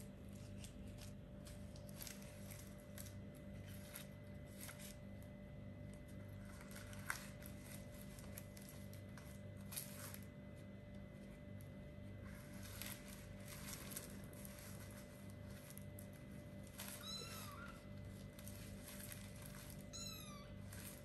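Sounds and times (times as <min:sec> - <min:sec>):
kittens scratching and rustling: 0:00.0 - 0:21.0
steady low hum: 0:00.0 - 0:21.0.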